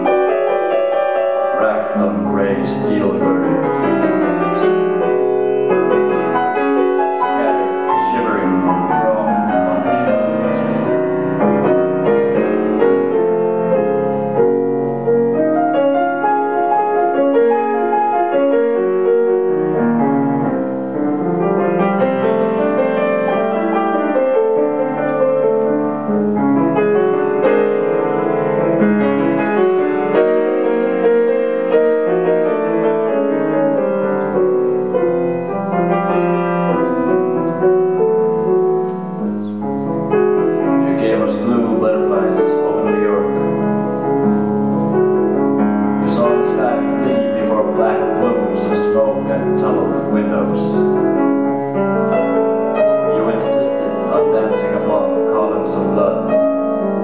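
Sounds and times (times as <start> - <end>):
grand piano playing: 0.0 - 57.0.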